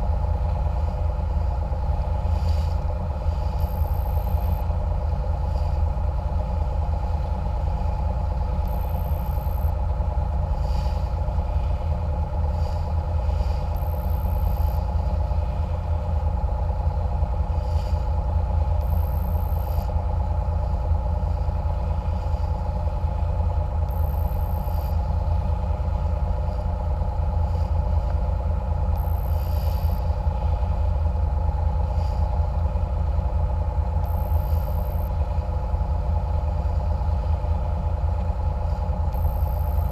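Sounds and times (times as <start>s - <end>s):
boat engines rumbling: 0.0s - 39.9s.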